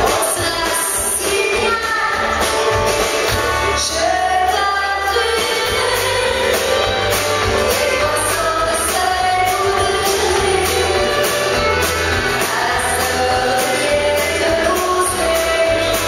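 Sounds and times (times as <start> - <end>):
live band playing: 0.0 - 16.0
woman singing: 0.0 - 16.0.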